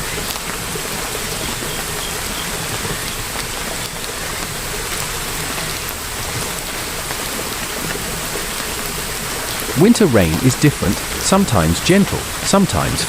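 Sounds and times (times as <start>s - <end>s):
raindrops ticking: 0.0s - 13.0s
steady rain: 0.0s - 13.0s.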